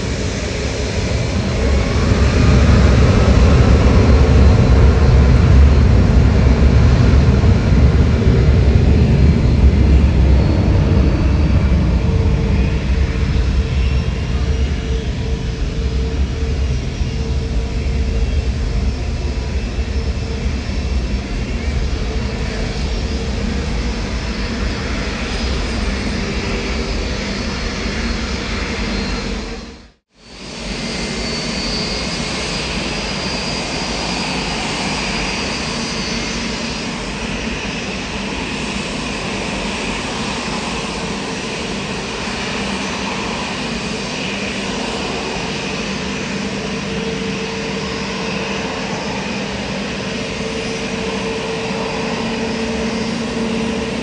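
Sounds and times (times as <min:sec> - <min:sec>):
high engine whine: 0:00.0 - 0:54.0
jet engines running: 0:00.0 - 0:54.0.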